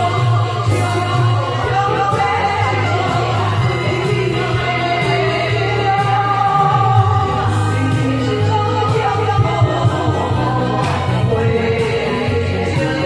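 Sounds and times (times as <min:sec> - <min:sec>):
person singing karaoke: 0:00.0 - 0:13.0
pop backing track with bass beat: 0:00.0 - 0:13.0.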